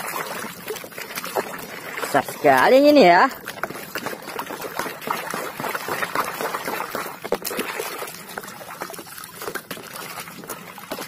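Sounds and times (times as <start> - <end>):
water splashing in a plastic tub: 0.0 - 11.0.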